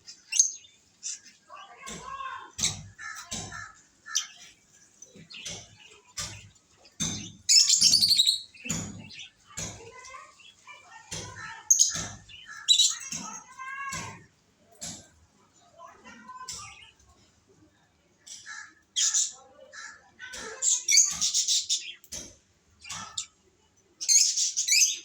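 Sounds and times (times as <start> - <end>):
lovebirds chirping: 0.0 - 13.4, 18.3 - 25.0.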